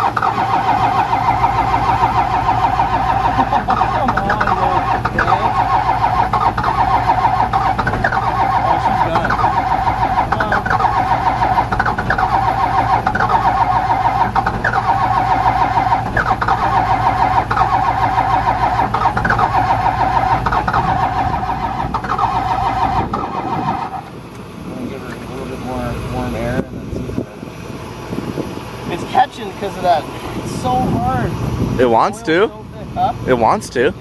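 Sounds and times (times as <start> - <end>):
diesel engine cranking: 0.0 - 34.0.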